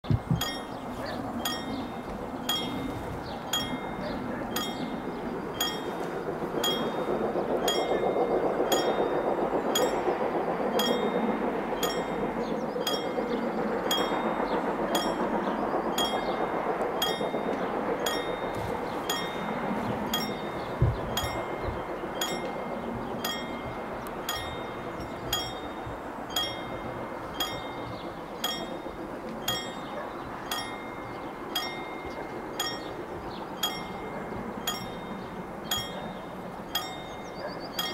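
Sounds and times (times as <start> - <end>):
steady background noise: 0.0 - 37.9
train rumble: 0.0 - 37.9
level crossing bell ringing: 0.4 - 13.2, 16.0 - 37.9.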